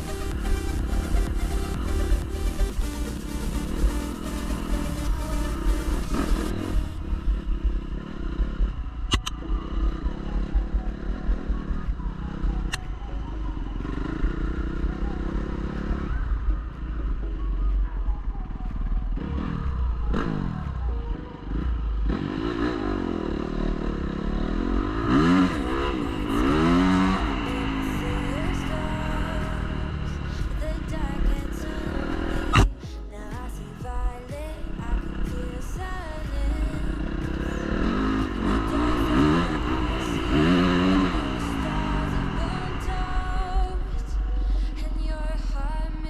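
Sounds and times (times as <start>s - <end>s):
dirt bike engine revving: 0.0s - 12.9s, 13.7s - 17.2s, 18.8s - 32.7s, 34.7s - 44.0s.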